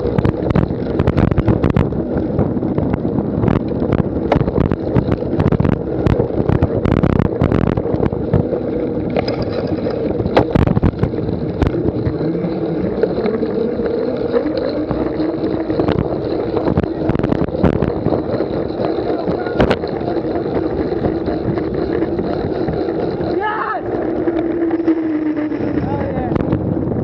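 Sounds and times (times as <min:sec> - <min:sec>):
sharp knocks and rattles: 0:00.0 - 0:25.0
wind noise on microphone: 0:00.0 - 0:27.0.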